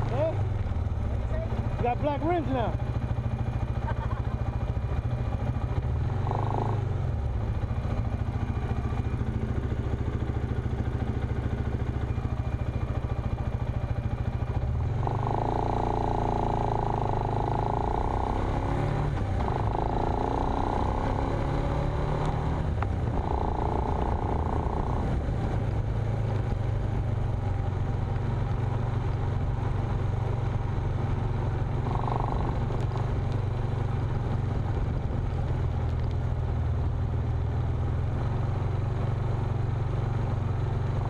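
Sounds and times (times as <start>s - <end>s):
tyre and chassis noise: 0.0s - 41.0s
vehicle engine droning: 0.0s - 41.0s.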